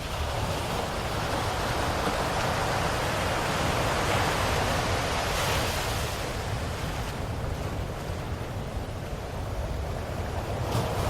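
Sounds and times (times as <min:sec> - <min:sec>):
ocean waves washing: 0:00.0 - 0:11.0.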